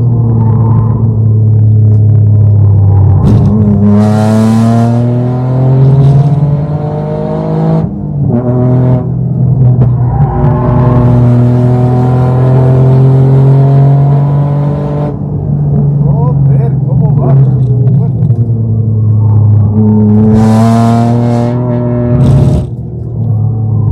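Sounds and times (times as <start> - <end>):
car engine accelerating hard: 0.0 - 15.2, 17.2 - 23.9.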